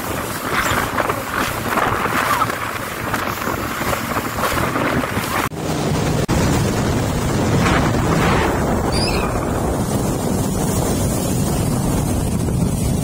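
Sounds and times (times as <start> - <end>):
jet ski engine droning: 0.0 - 13.0
water rushing and splashing: 0.0 - 13.0
wind buffeting microphone: 0.0 - 13.0.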